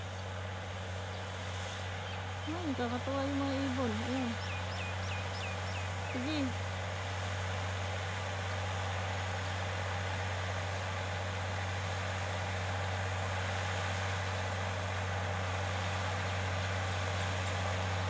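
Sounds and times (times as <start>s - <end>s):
tractor diesel engine: 0.0s - 18.0s.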